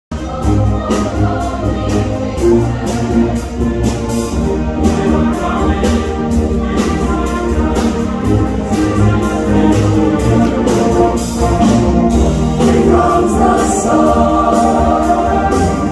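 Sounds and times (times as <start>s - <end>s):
choir singing: 0.1s - 15.9s
orchestra playing: 0.1s - 15.9s.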